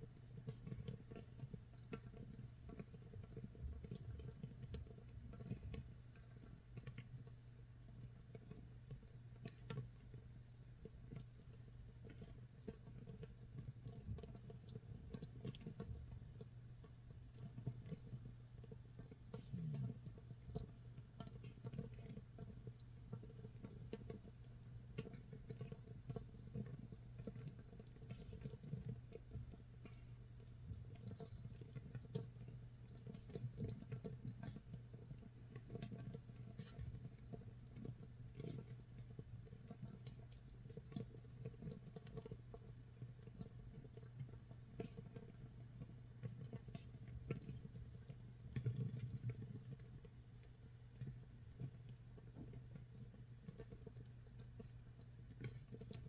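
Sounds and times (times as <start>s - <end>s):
faint steady low hum: 0.0s - 56.0s.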